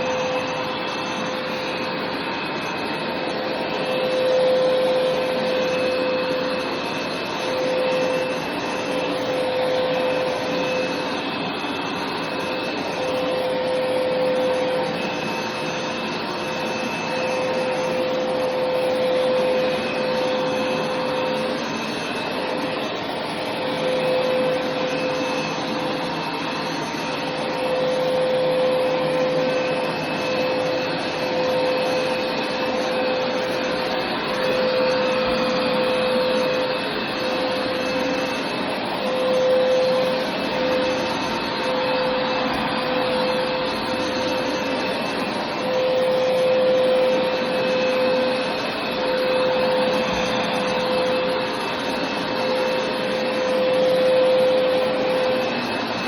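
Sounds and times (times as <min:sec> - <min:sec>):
carpet cleaning machine running: 0:00.0 - 0:56.0
motor whine: 0:00.0 - 0:56.0.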